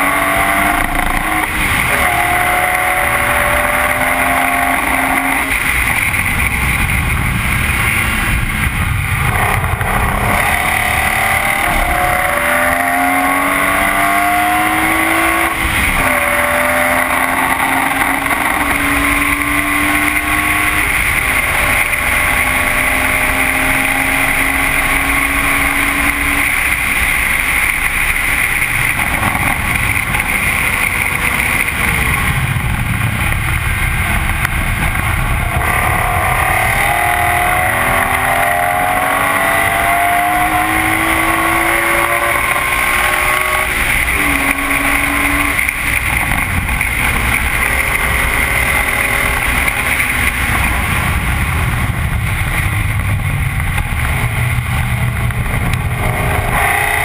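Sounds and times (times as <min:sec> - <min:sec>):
race car engine: 0:00.0 - 0:57.0
wind noise: 0:00.0 - 0:57.0.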